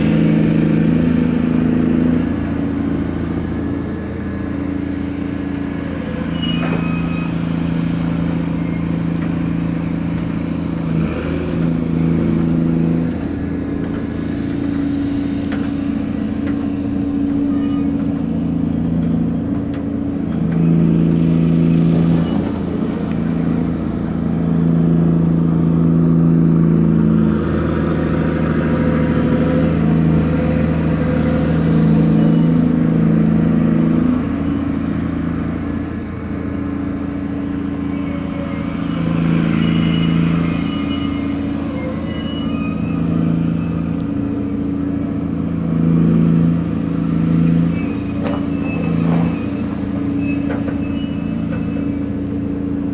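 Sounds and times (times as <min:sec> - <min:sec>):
crane machinery drone: 0:00.0 - 0:52.9.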